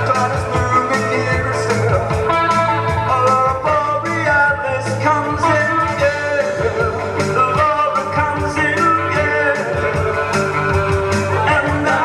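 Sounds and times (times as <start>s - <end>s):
person singing: 0.0s - 12.0s
rock band playing: 0.0s - 12.0s.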